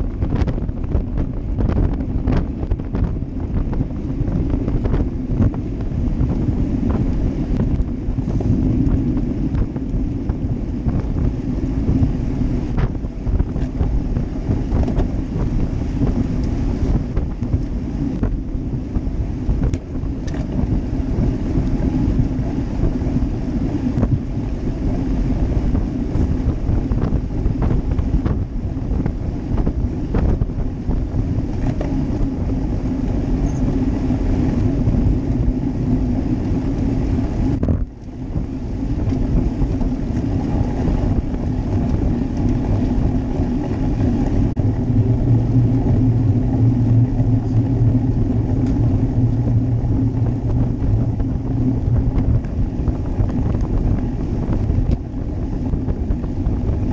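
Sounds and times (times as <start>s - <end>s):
low hum: 0.0s - 56.9s
tyre and road noise: 0.0s - 56.9s
wind buffeting microphone: 0.0s - 56.9s.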